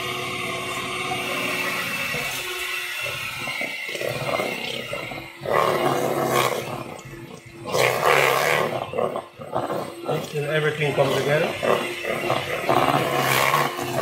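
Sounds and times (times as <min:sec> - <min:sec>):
beaters churning batter: 0:00.0 - 0:14.0
electric hand mixer running: 0:00.0 - 0:14.0.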